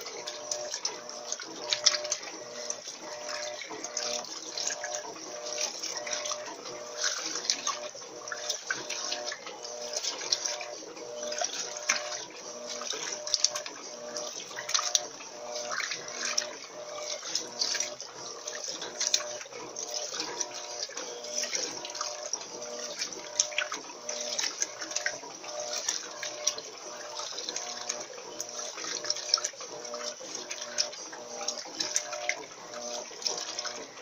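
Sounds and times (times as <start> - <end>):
washing machine motor hum: 0.0 - 34.0
water churning and splashing: 0.0 - 34.0.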